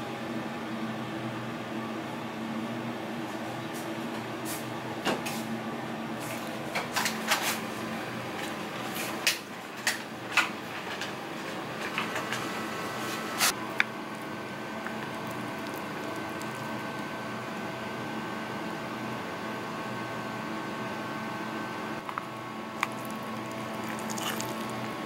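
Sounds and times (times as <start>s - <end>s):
steady room hum: 0.0s - 25.0s.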